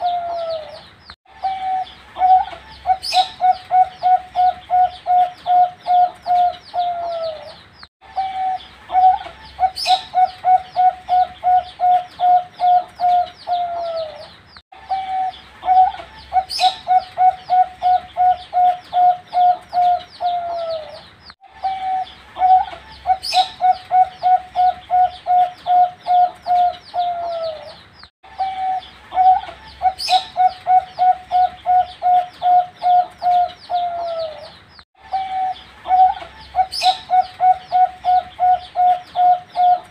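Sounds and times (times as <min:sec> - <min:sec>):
dove cooing: 0:00.0 - 0:39.9
high bird chirp: 0:00.0 - 0:39.9.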